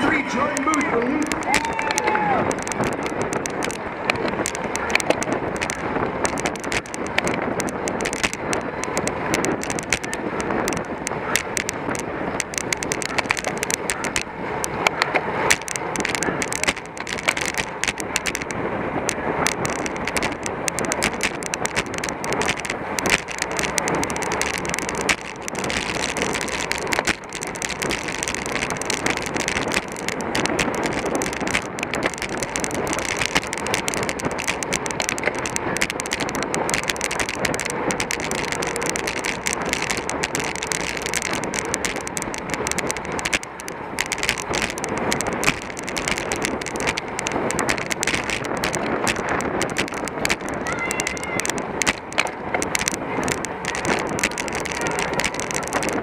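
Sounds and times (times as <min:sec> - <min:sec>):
tyre road noise: 0:00.0 - 0:56.0
wind buffeting microphone: 0:00.0 - 0:56.0
wind rush: 0:00.0 - 0:56.0.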